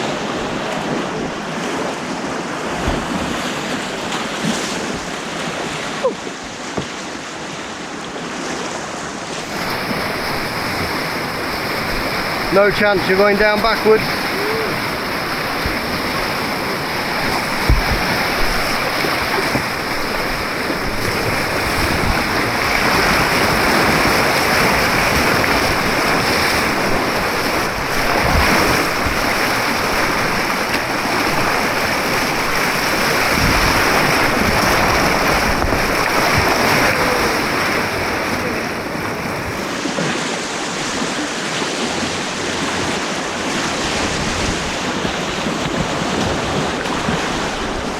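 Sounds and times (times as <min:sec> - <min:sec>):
roar of churning water: 0:00.0 - 0:47.9.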